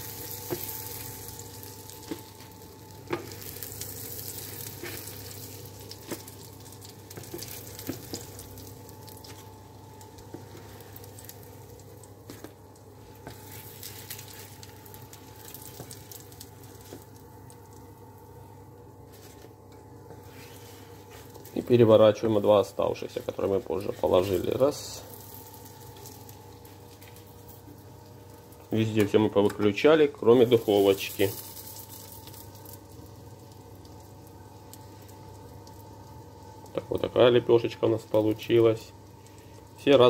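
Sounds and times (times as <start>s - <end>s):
fritters sizzling in oil: 0.0s - 18.0s, 23.2s - 29.5s, 30.2s - 40.0s.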